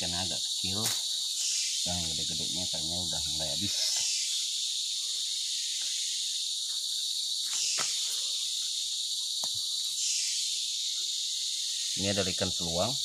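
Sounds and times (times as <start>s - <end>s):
chorus of rainforest insects: 0.0s - 13.0s.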